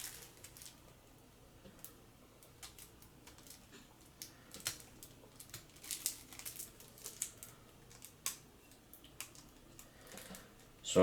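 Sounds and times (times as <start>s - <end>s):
plastic packaging crinkling: 0.0s - 1.0s, 1.8s - 10.7s.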